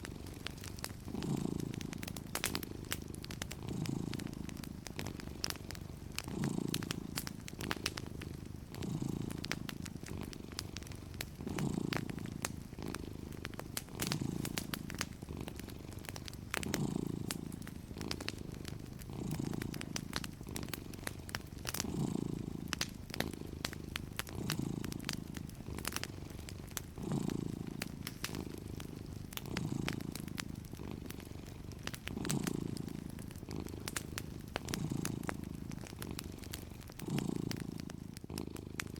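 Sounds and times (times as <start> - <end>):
cat purring: 0.0 - 38.9
wood fire crackling: 0.0 - 38.9.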